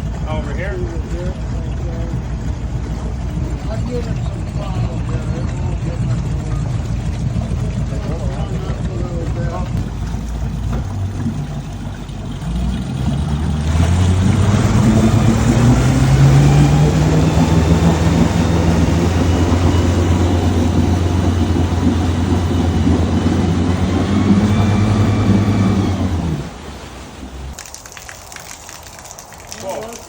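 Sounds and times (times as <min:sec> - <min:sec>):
boat motor running: 0:00.0 - 0:27.8.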